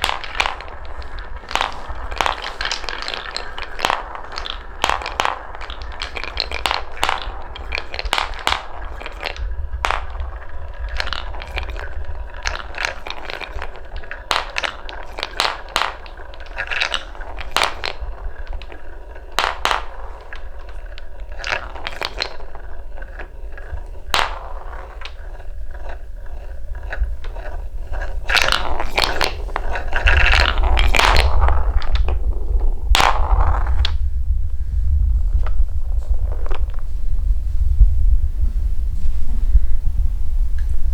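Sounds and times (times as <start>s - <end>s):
balls clattering on wooden track: 0.0s - 40.9s
low rolling rumble: 0.0s - 40.9s.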